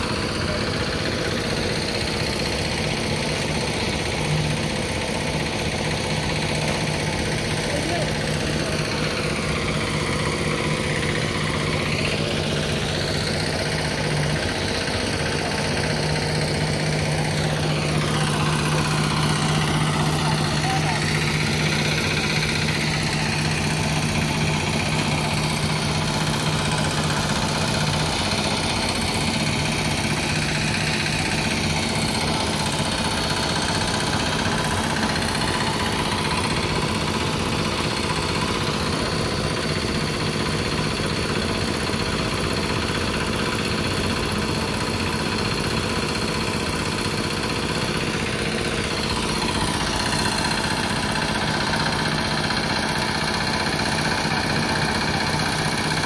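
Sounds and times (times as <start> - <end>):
concrete vibrator engine running: 0.0 - 56.0.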